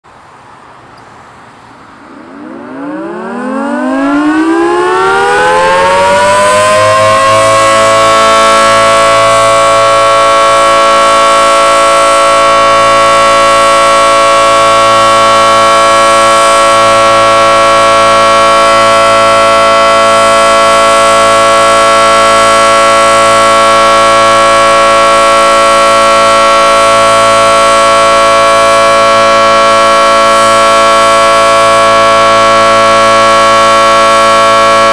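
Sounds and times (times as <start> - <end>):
emergency warning siren: 1.3 - 34.9.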